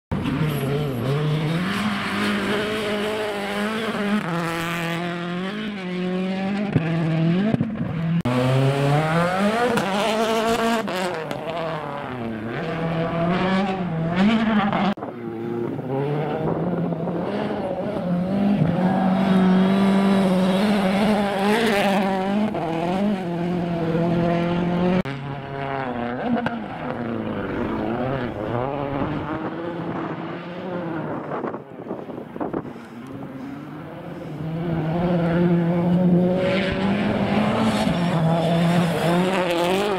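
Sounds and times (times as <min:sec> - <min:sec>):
rally car engine revving: 0:00.1 - 0:39.9.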